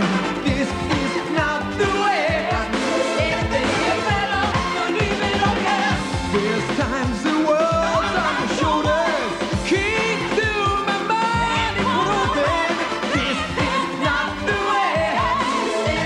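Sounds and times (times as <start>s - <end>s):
drum kit beat: 0.0s - 16.0s
person singing: 0.0s - 16.0s.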